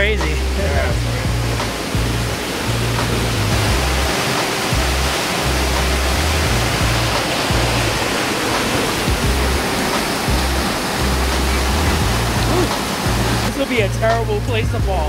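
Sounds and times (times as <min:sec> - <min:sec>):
music bass line: 0:00.0 - 0:15.0
waterfall rushing: 0:00.0 - 0:15.0.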